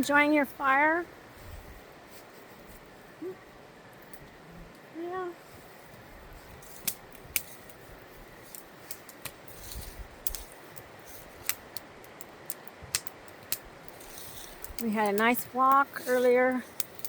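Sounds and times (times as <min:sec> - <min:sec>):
campfire crackling and popping: 0:00.0 - 0:17.0
low hiss: 0:00.0 - 0:17.0.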